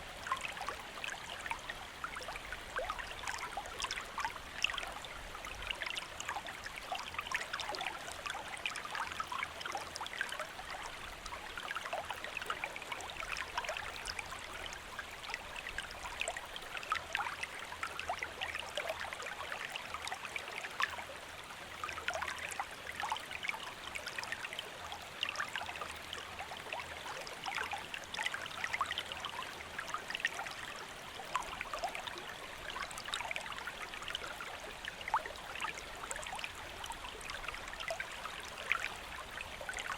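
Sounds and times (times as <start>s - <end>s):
shallow stream flowing: 0.0s - 39.9s.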